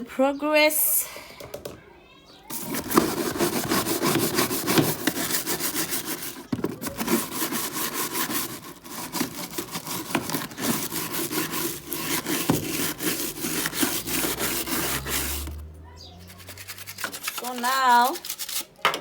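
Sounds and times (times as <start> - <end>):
brush scrubbing washing machine: 2.5 - 18.7.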